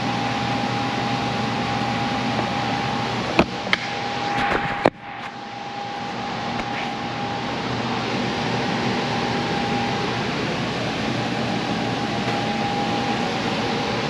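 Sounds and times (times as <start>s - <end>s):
shop machinery humming: 0.0s - 14.0s.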